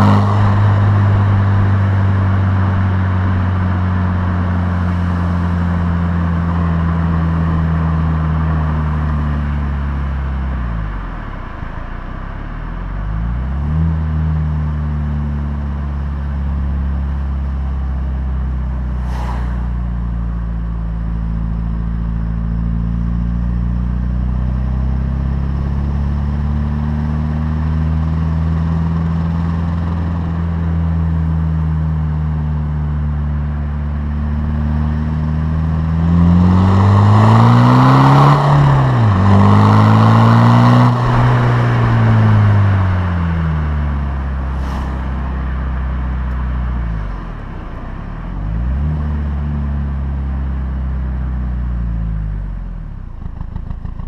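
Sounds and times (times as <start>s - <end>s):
diesel car exhaust revving: 0.0s - 54.0s.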